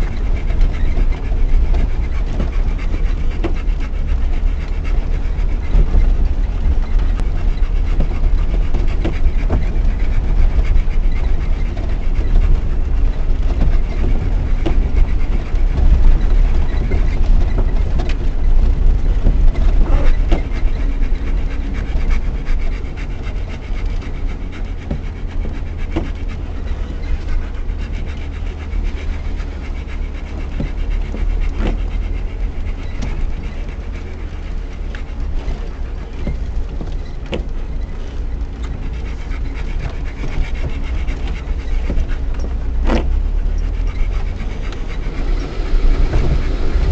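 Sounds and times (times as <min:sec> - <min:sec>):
body knocks and rattles: 0:00.0 - 0:46.9
dog panting: 0:00.0 - 0:46.9
engine and tyres rumbling: 0:00.0 - 0:46.9.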